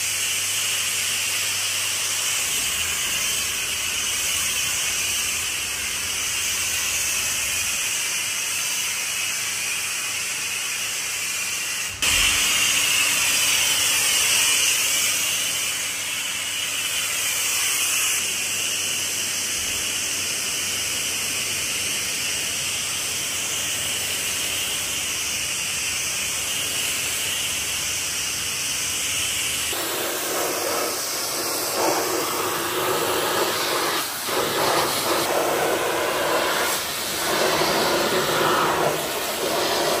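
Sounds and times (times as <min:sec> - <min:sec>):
pressure washer spraying water: 0:00.0 - 0:40.0.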